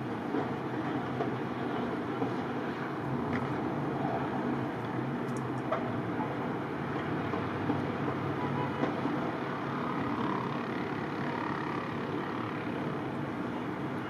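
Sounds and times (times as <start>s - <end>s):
constant rushing noise: 0.0s - 14.0s
vehicle engines droning: 0.0s - 14.0s.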